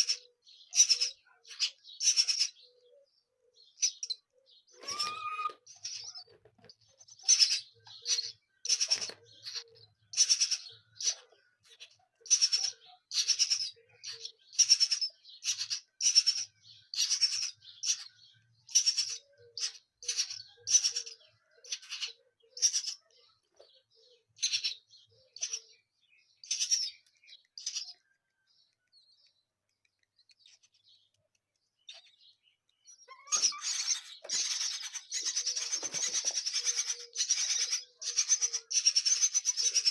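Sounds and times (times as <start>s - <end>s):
nestling birds chirping: 0.0s - 39.9s.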